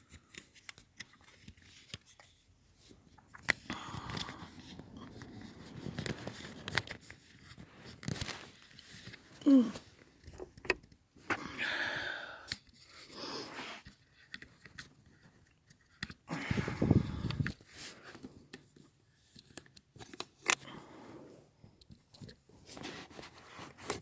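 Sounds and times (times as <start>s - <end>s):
handling clicks and rustling: 0.0s - 11.5s, 13.8s - 20.8s, 21.6s - 24.0s.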